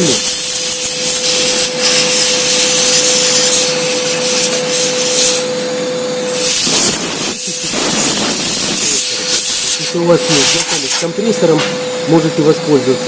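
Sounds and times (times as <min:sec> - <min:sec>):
compressed air hissing: 0:00.0 - 0:05.7, 0:06.3 - 0:11.2
steady whine: 0:00.0 - 0:13.0.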